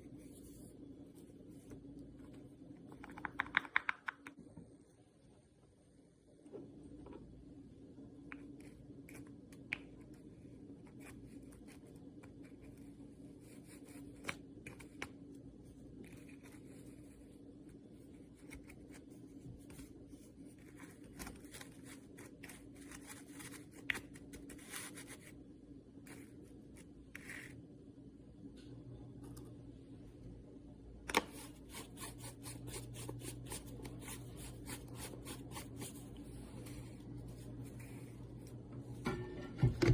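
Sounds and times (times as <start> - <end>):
steady low hum: 4.2 - 39.9.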